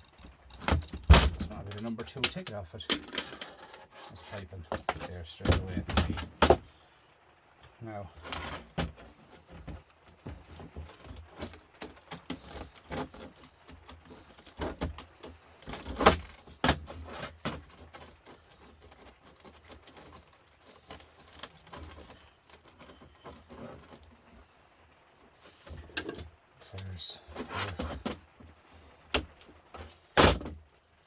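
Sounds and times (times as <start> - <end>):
metal scrap clinking and rattling: 0.0 - 6.6, 8.2 - 24.2, 25.4 - 31.0.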